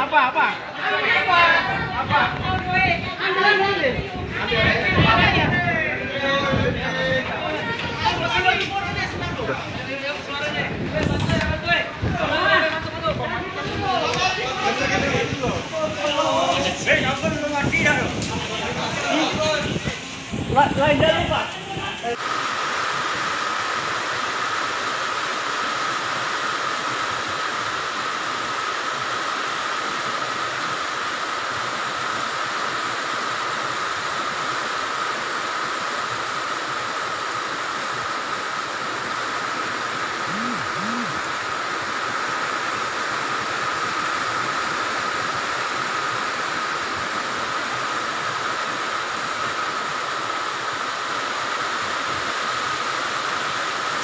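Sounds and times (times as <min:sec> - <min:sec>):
river torrent rushing: 0:00.0 - 0:54.0.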